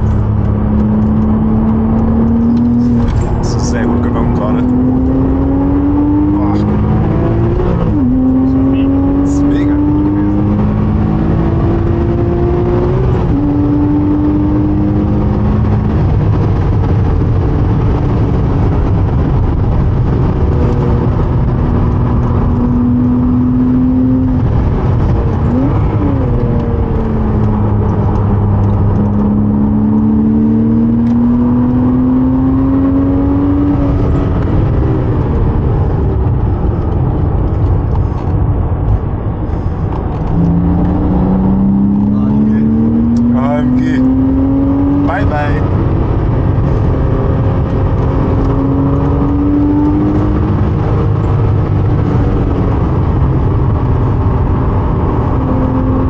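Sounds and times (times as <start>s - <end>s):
sports car engine running hard: 0.0s - 56.0s.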